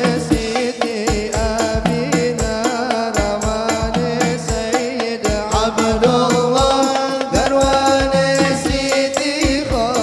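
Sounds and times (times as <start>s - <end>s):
frame drums and bass drum beat: 0.0s - 10.0s
man singing into a microphone: 0.0s - 10.0s.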